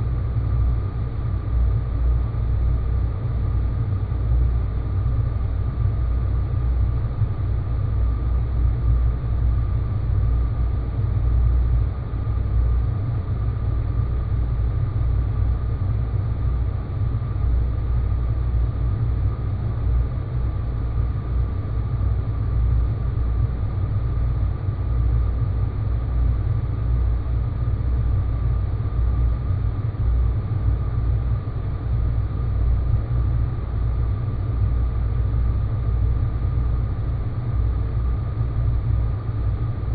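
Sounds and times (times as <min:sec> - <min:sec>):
faint high hum: 0:00.0 - 0:39.9.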